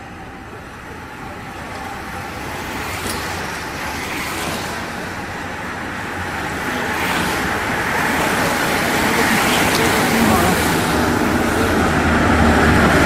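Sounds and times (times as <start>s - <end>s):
bicycle tyres rushing on asphalt: 0.0s - 13.0s.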